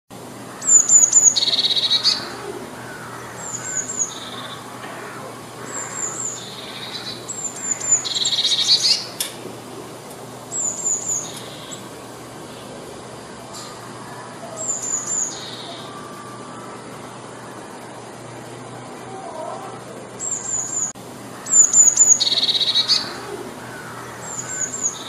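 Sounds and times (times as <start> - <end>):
bird singing with trills: 0.5 - 9.3, 10.5 - 12.7, 13.5 - 18.2, 20.2 - 25.0.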